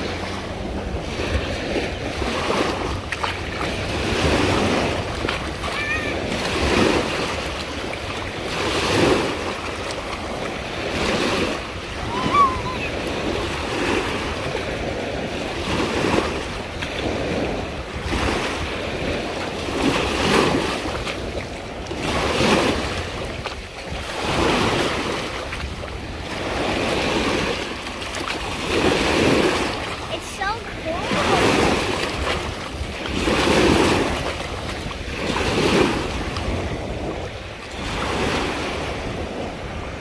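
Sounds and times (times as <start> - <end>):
small waves breaking on beach: 0.0 - 40.0.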